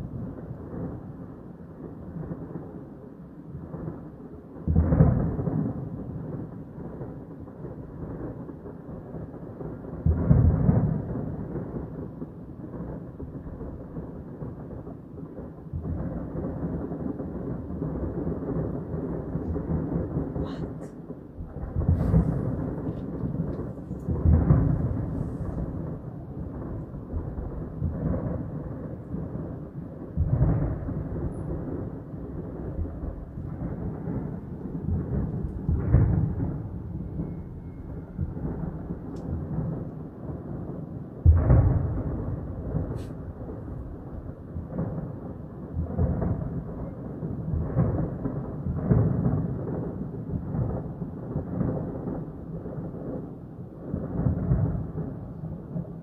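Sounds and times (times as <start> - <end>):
thunder rumbling: 0.0 - 56.0.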